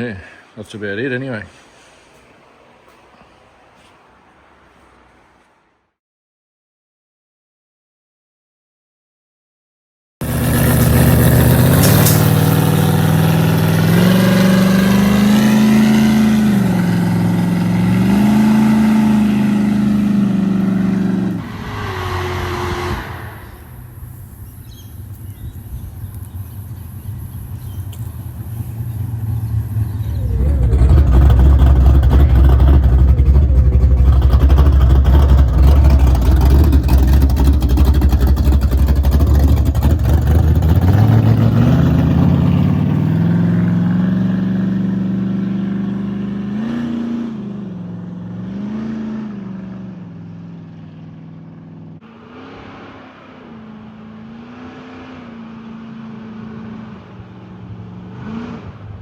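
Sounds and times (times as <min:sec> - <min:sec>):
car engine revving: 0:10.2 - 0:59.0.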